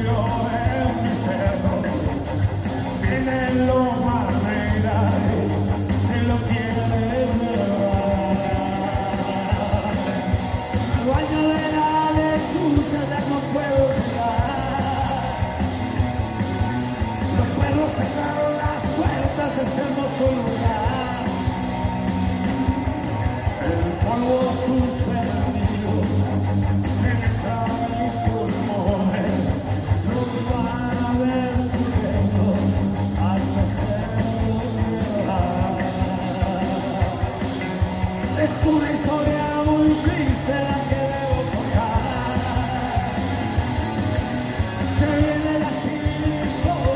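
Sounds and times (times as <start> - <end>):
man singing: 0.0 - 15.6, 17.0 - 21.9, 23.4 - 43.6, 44.7 - 46.9
rock band playing: 0.0 - 46.9.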